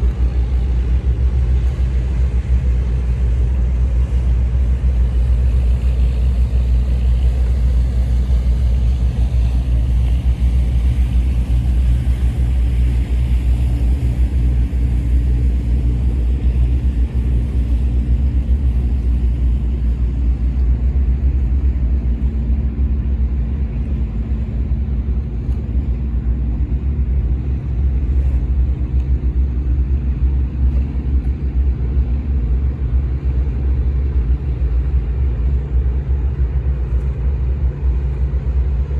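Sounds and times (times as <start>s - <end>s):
boat engine rumbling: 0.0s - 38.9s
wind and water hiss: 0.0s - 38.9s.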